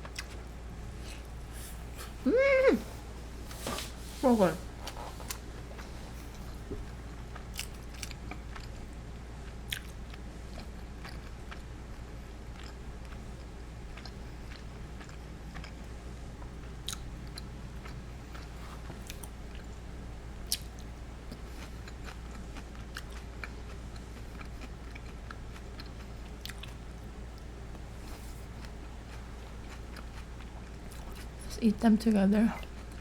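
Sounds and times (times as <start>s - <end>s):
person chewing food: 0.0s - 2.2s, 4.9s - 19.8s, 20.4s - 31.4s
steady low hum: 0.0s - 33.0s.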